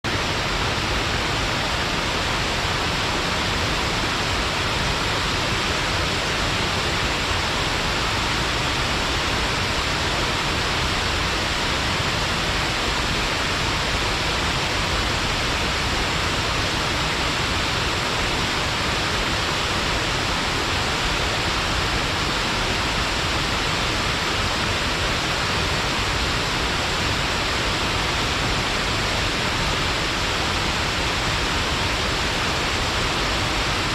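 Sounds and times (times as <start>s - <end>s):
waterfall hiss: 0.1s - 33.9s.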